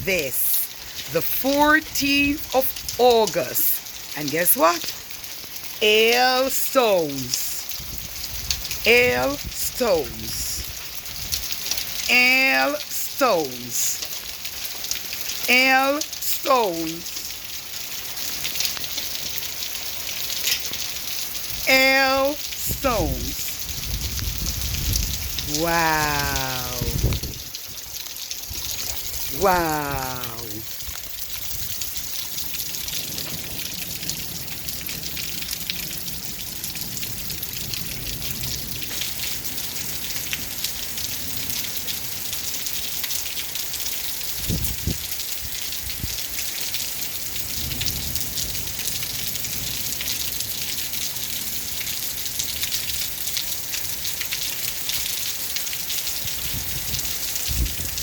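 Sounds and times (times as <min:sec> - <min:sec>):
hail and rain pelting: 0:00.0 - 0:58.0.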